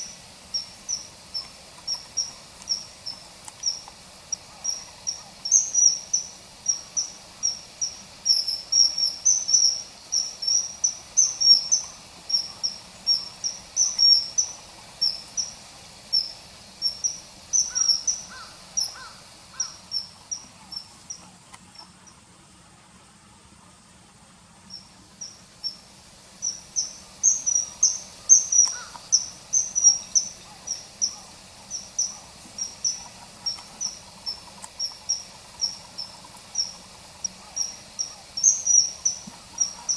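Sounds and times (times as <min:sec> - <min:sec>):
kingfisher calling: 0:00.0 - 0:21.3, 0:24.7 - 0:39.9.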